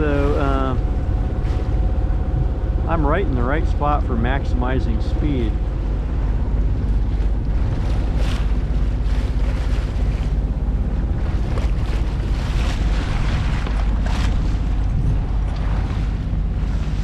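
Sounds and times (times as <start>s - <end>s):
water splashing along a hull: 0.0s - 17.0s
wind buffeting microphone: 0.0s - 17.0s.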